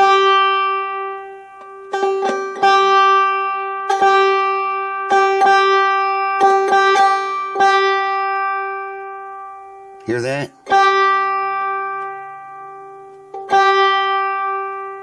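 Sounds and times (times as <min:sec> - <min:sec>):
banjo string plucked: 0:00.0 - 0:09.9, 0:10.6 - 0:15.0
string buzzing noise: 0:00.0 - 0:15.0.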